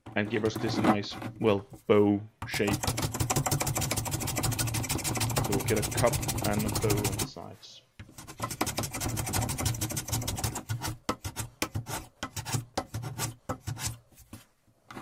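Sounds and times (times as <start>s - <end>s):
hand plane scraping wood: 0.3s - 1.5s, 2.6s - 7.3s, 8.1s - 15.0s.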